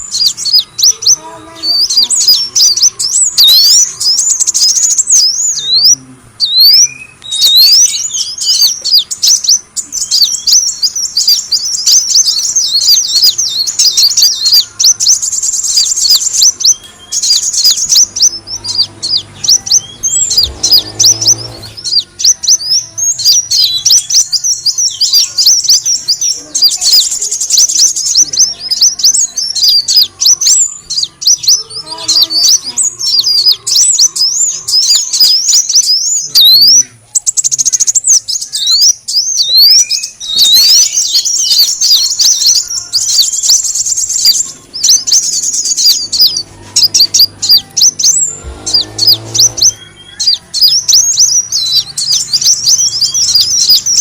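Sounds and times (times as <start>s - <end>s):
sunbird chirps and twitters: 0.0s - 54.0s.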